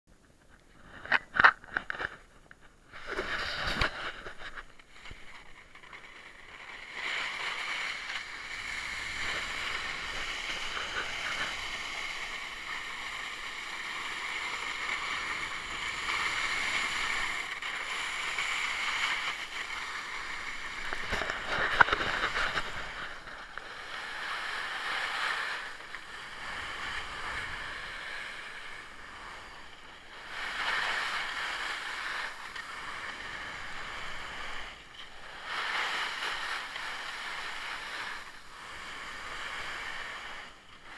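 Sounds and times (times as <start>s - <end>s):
snowboard scraping over snow: 0.8s - 40.9s.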